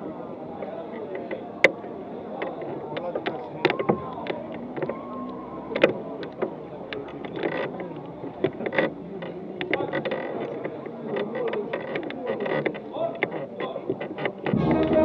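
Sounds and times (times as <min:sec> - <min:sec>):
indistinct crowd chatter: 0:00.0 - 0:15.0
sharp clicks and knocks: 0:00.6 - 0:15.0.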